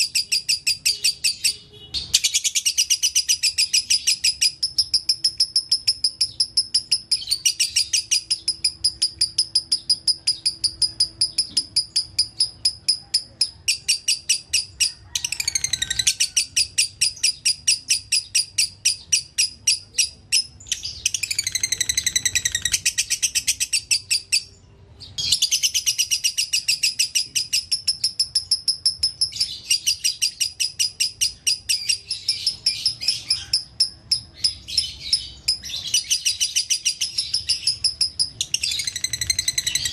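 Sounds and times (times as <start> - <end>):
lovebird chirping rapidly: 0.0 - 39.9.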